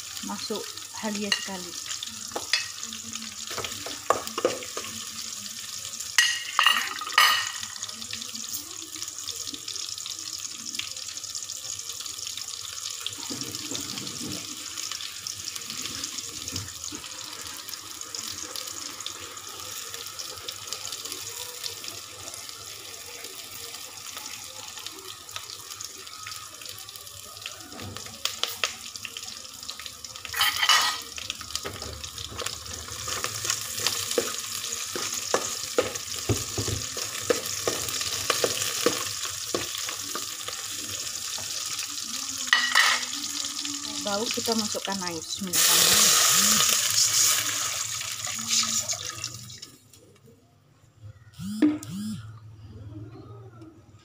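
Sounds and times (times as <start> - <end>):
onions sizzling in hot oil: 0.0 - 49.6.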